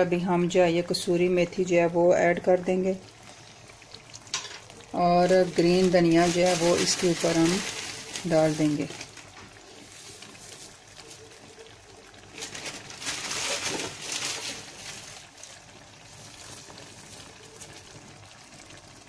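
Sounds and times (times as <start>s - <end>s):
curry sizzling in a pan: 0.0s - 19.0s.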